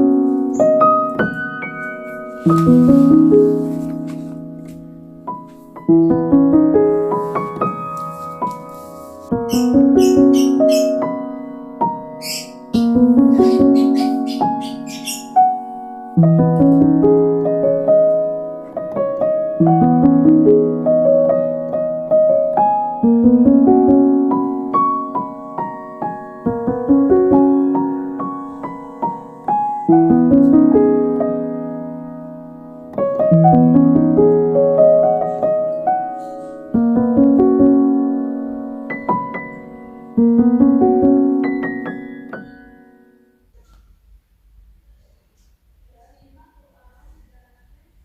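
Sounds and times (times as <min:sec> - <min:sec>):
gentle solo piano music: 0:00.0 - 0:43.4.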